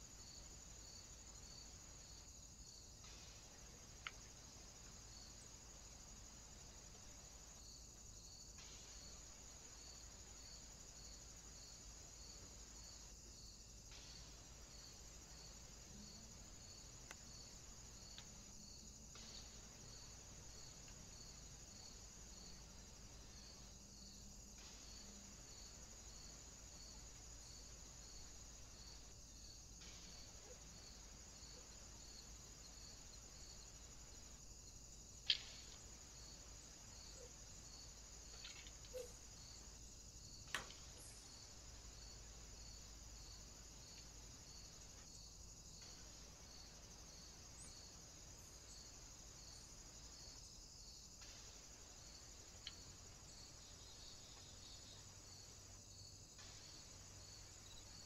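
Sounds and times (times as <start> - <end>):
insect chirping: 0.0 - 58.0.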